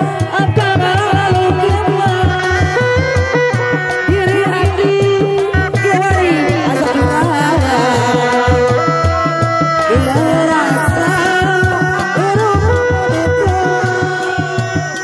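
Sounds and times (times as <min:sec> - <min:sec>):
frame drums steady beat: 0:00.0 - 0:15.0
high held melody: 0:00.0 - 0:15.0.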